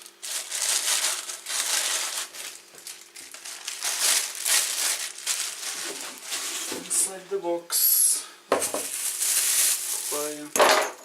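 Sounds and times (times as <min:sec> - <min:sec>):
plastic packaging crinkling: 0:00.0 - 0:07.2, 0:08.6 - 0:10.6.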